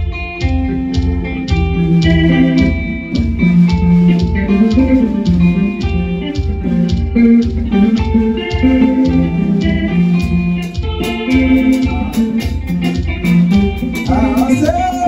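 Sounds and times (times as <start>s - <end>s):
band accompanying a hymn: 0.2s - 15.0s.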